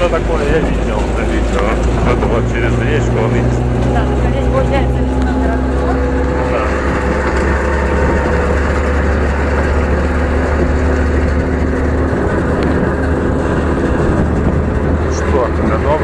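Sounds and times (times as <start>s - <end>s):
tyres rolling over gravel: 0.0s - 16.0s
vehicle engine drone: 0.0s - 16.0s.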